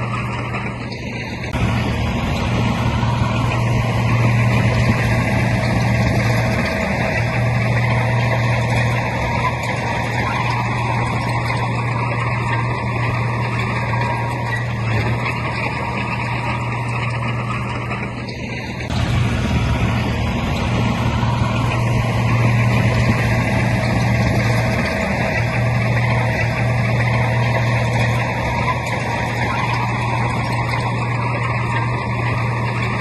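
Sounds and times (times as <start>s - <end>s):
heavy diesel engine drone: 0.0s - 33.0s.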